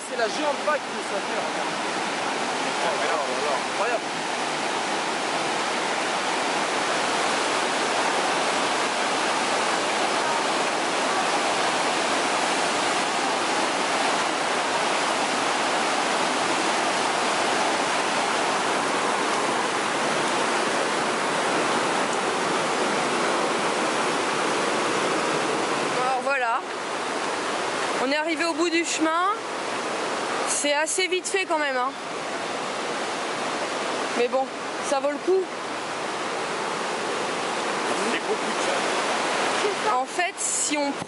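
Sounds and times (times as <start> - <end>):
whitewater rapids rushing: 0.0 - 41.0.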